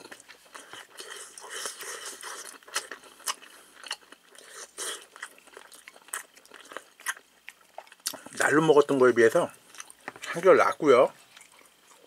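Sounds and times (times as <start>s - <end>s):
person chewing food: 0.0s - 8.5s, 9.6s - 10.5s, 11.1s - 12.0s.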